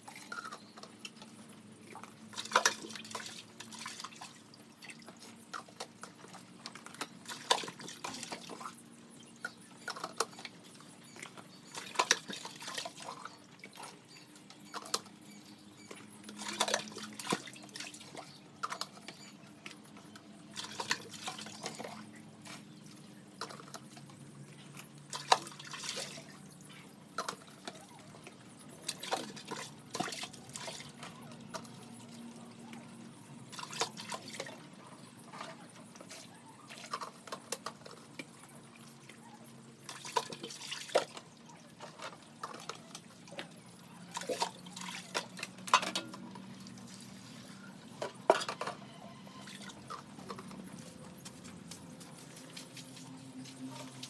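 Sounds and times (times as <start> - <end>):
water splashing and dripping: 0.0 - 54.0.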